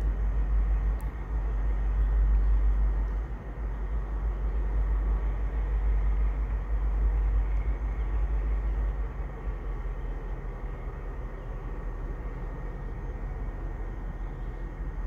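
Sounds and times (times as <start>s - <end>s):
distant train rumble: 0.0s - 15.0s.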